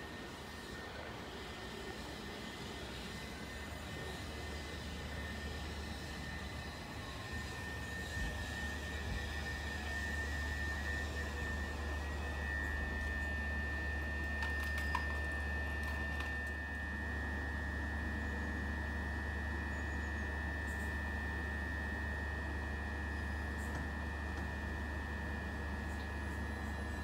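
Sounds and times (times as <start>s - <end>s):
electric train high-pitched whine: 0.0s - 27.0s
low hum: 5.0s - 27.0s.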